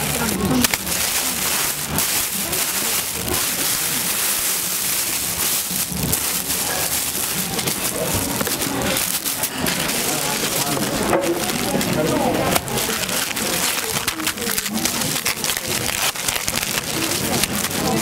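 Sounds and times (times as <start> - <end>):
hands digging into rice: 0.0 - 18.0
plastic film crinkling: 0.0 - 18.0
steady background noise: 0.0 - 18.0.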